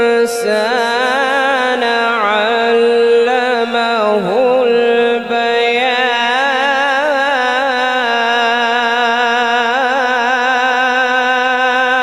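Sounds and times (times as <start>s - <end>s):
man reciting melodically into microphone: 0.0s - 12.0s.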